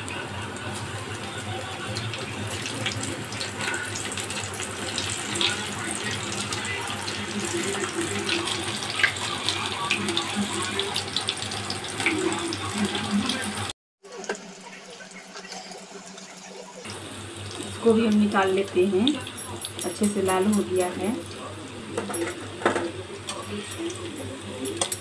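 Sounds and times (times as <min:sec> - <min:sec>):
food deep-frying in hot oil: 0:00.0 - 0:25.0.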